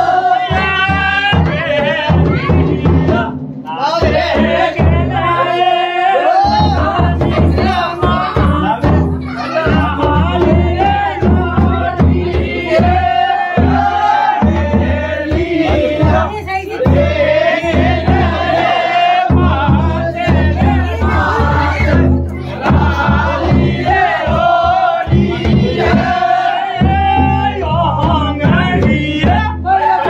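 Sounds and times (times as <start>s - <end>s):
frame drum beat: 0.0s - 5.8s, 6.4s - 30.0s
men singing together: 0.0s - 30.0s.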